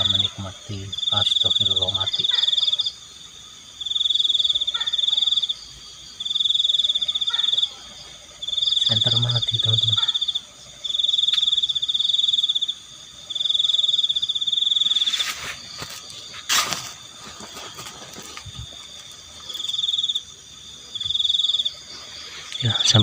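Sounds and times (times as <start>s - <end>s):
crickets trilling: 0.0s - 23.0s
frogs calling: 0.0s - 23.0s.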